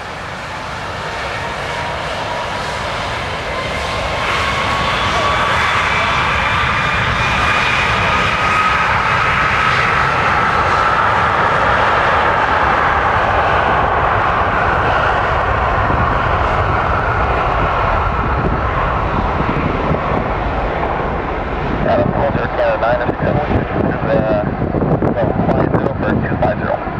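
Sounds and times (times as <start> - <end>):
aircraft engines running loudly: 0.0 - 26.9.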